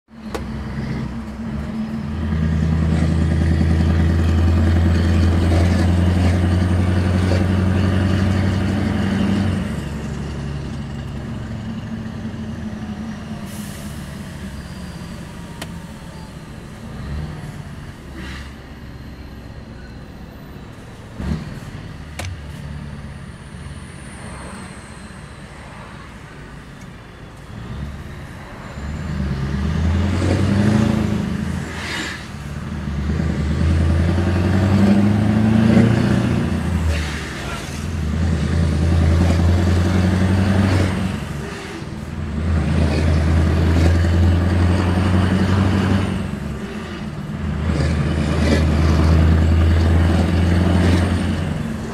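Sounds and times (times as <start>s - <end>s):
truck diesel engine running: 0.1s - 24.2s, 27.0s - 51.9s.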